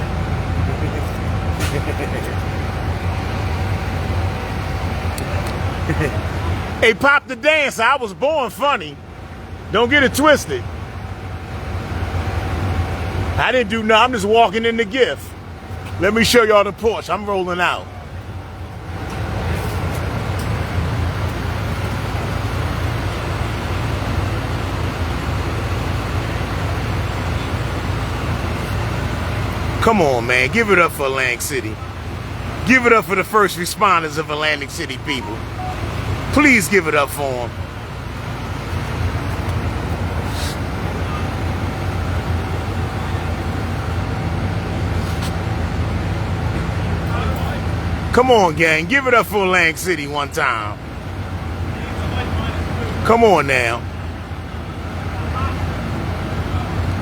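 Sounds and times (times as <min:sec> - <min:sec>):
moving vehicle rumble and road noise: 0:00.0 - 0:57.0.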